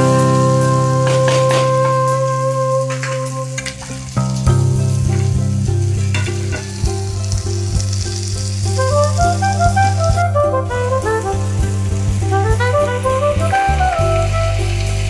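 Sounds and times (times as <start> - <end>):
instrumental background music: 0.0 - 15.0
vegetables sizzling in oil: 0.0 - 15.0.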